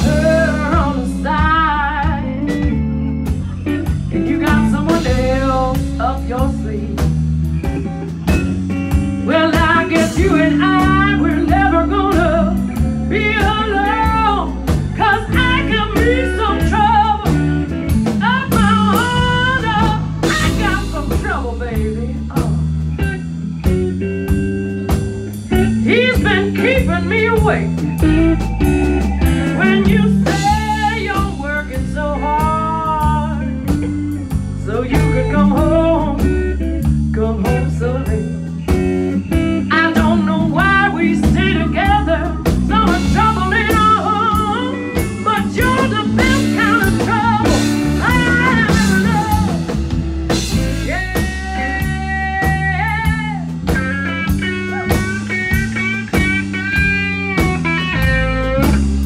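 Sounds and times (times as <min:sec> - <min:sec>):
blues band playing: 0:00.0 - 0:59.0
electric guitar solo: 0:00.0 - 0:59.0.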